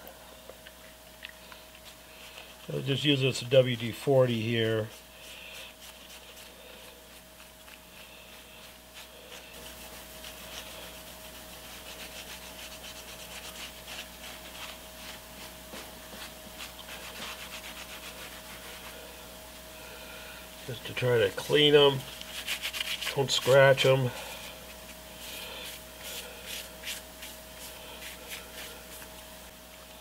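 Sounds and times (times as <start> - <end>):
faint hum: 0.0 - 30.0
metal rubbed on paper towel: 1.8 - 19.2, 21.0 - 29.1.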